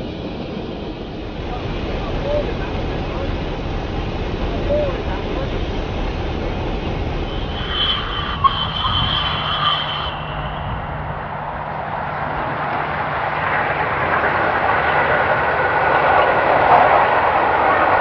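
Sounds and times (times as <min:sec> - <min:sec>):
steam locomotive rumbling: 0:00.0 - 0:18.0.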